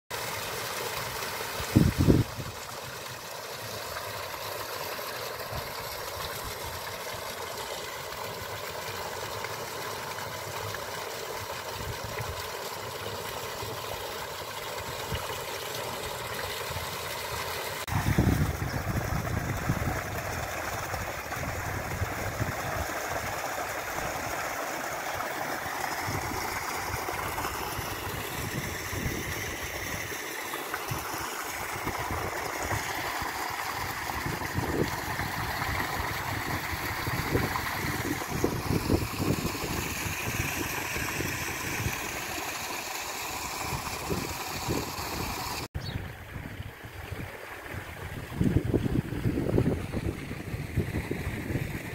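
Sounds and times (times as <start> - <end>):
water splashing into pool: 0.1 - 51.9.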